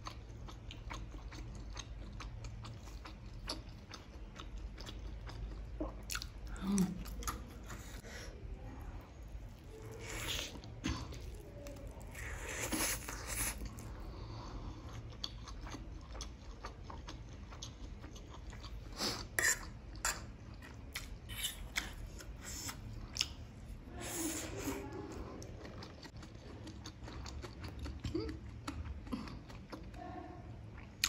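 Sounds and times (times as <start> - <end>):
person chewing food: 0.0 - 8.2, 9.0 - 30.1.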